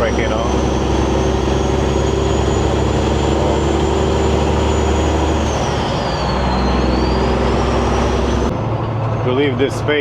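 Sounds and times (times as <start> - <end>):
truck engine drone in cab: 0.0 - 10.0.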